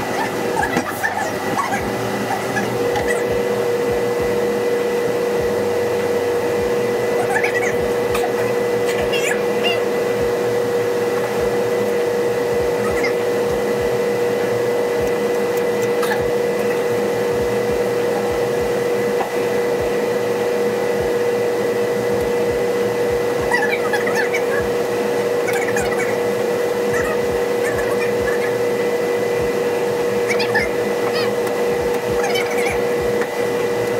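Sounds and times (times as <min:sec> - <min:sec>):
steady machine drone: 0:00.0 - 0:33.9.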